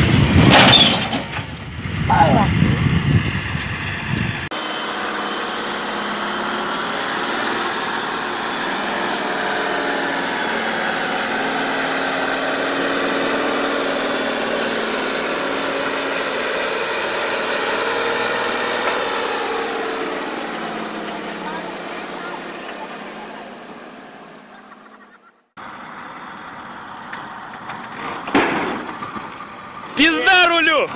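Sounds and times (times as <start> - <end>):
dump truck diesel engine droning: 0.0 - 30.9.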